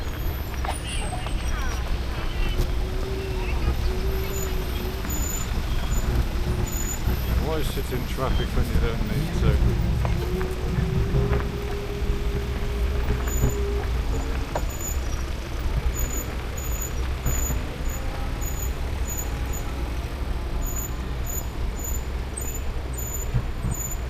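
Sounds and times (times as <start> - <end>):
road rumble: 0.0 - 24.0
wind noise: 0.0 - 24.0.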